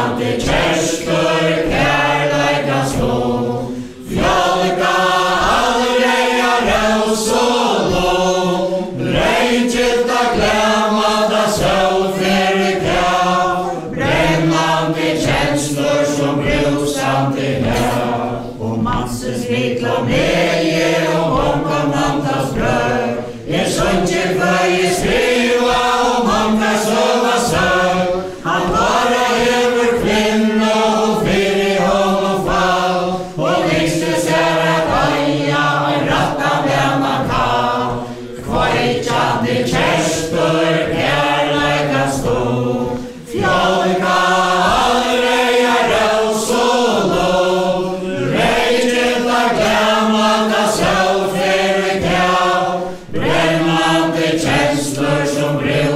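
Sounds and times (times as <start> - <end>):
group singing in unison: 0.0 - 55.9.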